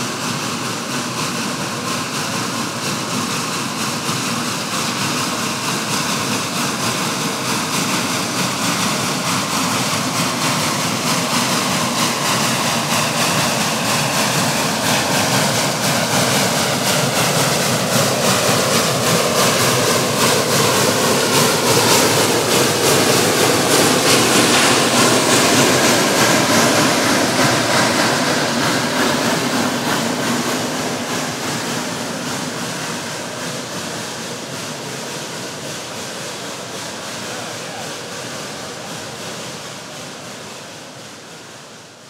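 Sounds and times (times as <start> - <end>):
steam locomotive chuffing: 0.0 - 42.0.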